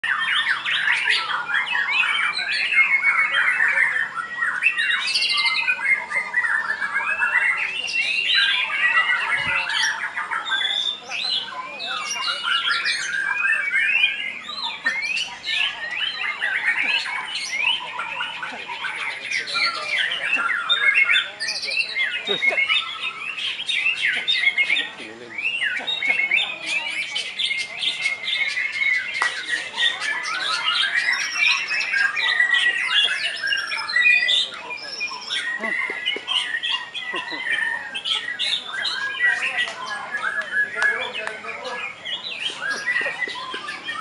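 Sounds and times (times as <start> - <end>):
birds singing whistles and trills: 0.0 - 44.0.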